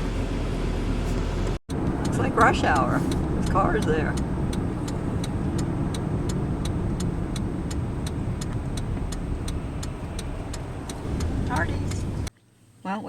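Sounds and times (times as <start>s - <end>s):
truck engine and road noise: 0.0s - 12.4s
regular ticking: 1.7s - 12.3s.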